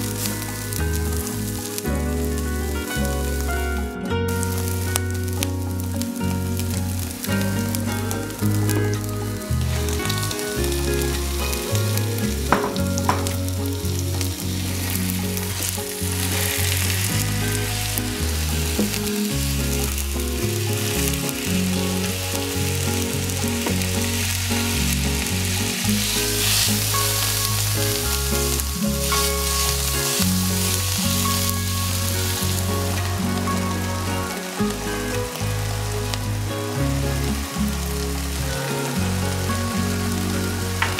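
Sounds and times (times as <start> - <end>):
low steady tones: 0.0 - 40.9
meat sizzling in a pan: 4.4 - 40.9.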